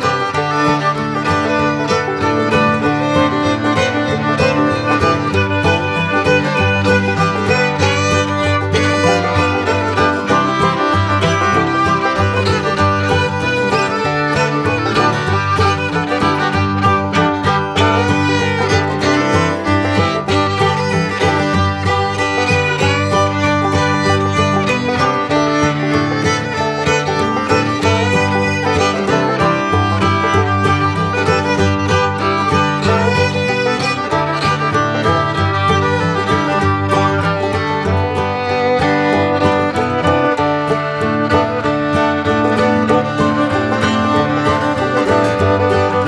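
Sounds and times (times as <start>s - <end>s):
upbeat bluegrass tune: 0.0s - 46.0s.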